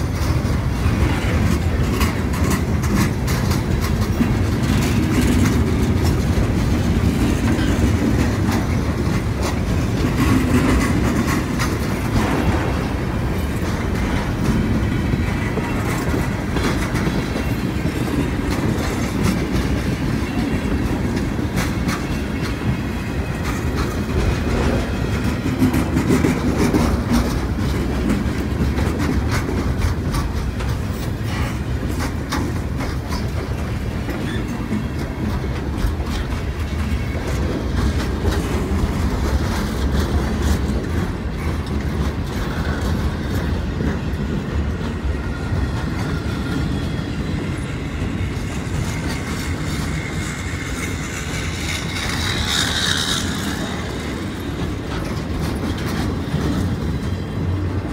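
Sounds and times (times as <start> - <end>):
clickety-clack of wheels on track: 0.0 - 57.9
low rumble of steel wheels: 0.0 - 57.9.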